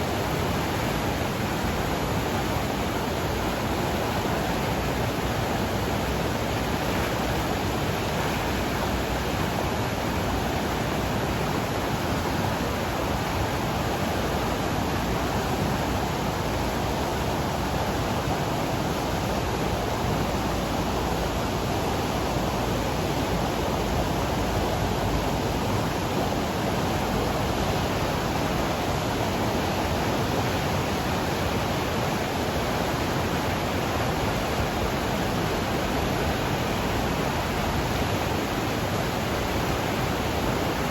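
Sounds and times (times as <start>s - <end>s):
roaring river: 0.0s - 40.9s.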